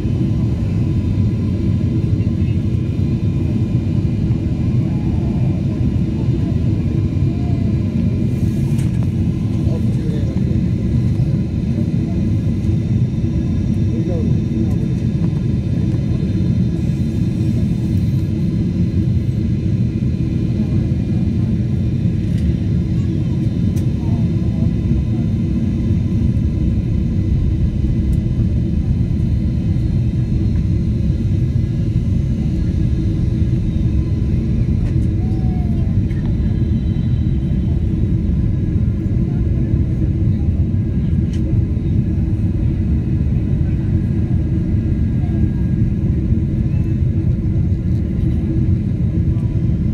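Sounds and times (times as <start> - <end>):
airliner cabin engine rumble: 0.0 - 49.9
faint engine whine: 0.0 - 49.9.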